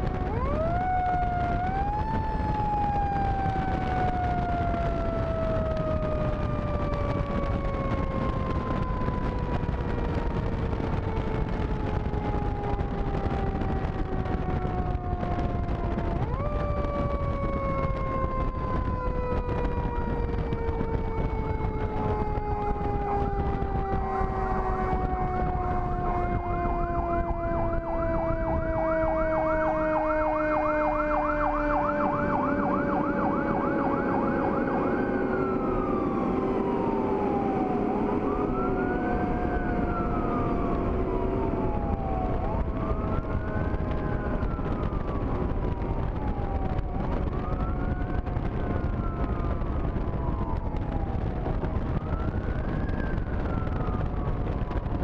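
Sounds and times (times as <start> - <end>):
fire engine siren: 0.0 - 55.0
road and wind noise: 0.0 - 55.0.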